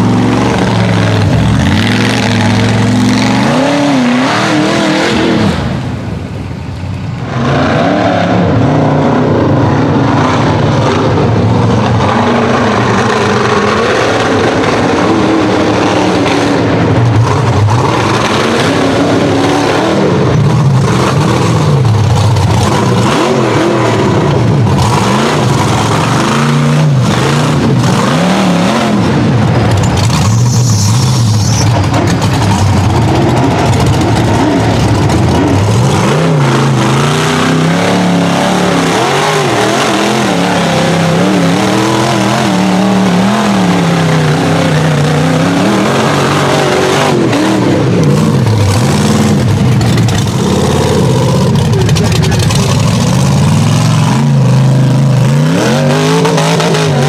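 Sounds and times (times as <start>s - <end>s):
buggy engine revving hard: 0.0s - 57.0s.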